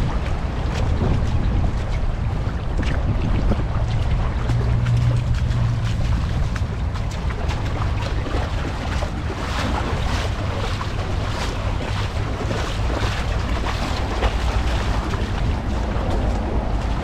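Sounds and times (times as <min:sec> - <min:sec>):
small waves washing on beach: 0:00.0 - 0:17.0
wind buffeting microphone: 0:00.0 - 0:17.0.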